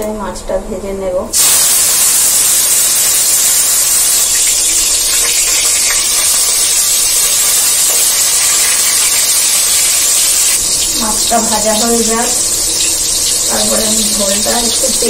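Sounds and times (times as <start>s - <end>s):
fish sizzling in hot oil: 1.4s - 15.0s.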